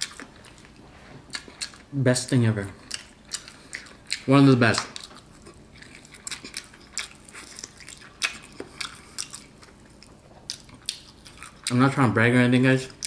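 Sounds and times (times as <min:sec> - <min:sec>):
person chewing with wet smacks: 0:00.0 - 0:01.9, 0:02.7 - 0:12.0.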